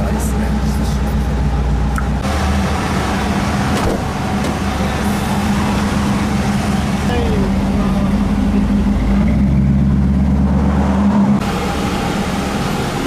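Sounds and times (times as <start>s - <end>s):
car engine hum: 0.0s - 13.0s
wind and road noise: 0.0s - 13.0s.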